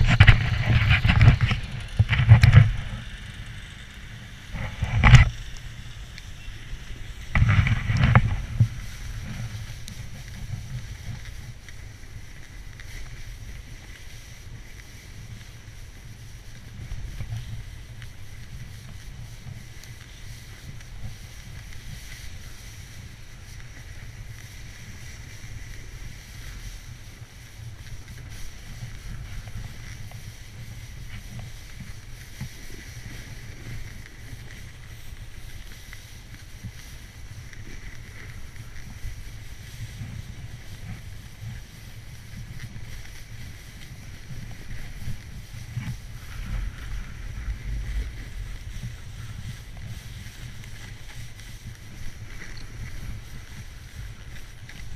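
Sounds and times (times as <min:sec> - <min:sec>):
skis gliding across snow: 0:00.0 - 0:54.9
wind rumbling on microphone: 0:00.0 - 0:54.9.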